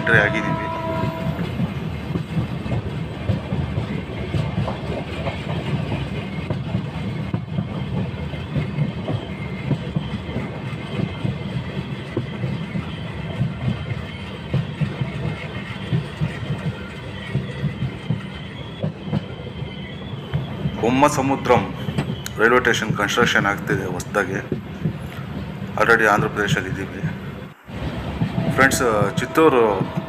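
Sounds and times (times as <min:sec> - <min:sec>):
train coach rumble and rattle: 0:00.0 - 0:30.0
wheels clicking on rails: 0:00.3 - 0:30.0.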